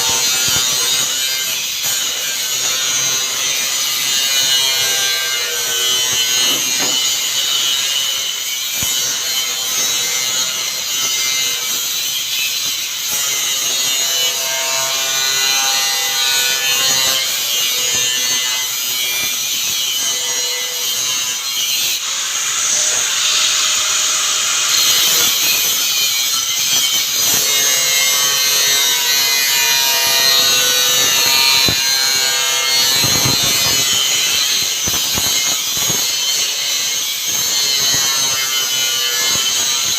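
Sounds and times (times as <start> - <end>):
power saw cutting: 0.0 - 39.9.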